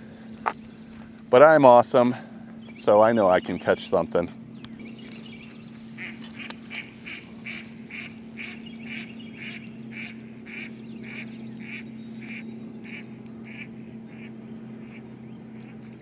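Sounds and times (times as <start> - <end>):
steady low hum: 0.0 - 16.0
bird calling: 2.4 - 16.0.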